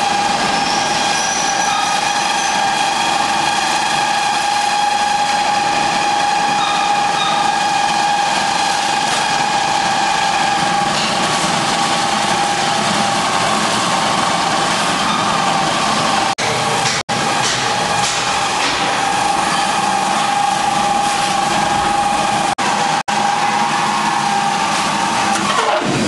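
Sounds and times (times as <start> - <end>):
pellet mill mechanical drone: 0.0 - 26.0.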